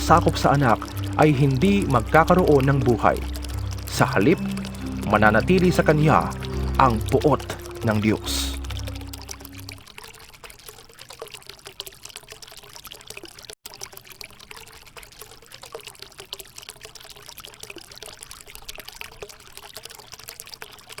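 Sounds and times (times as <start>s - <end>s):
river water bubbling and trickling: 0.0s - 21.0s.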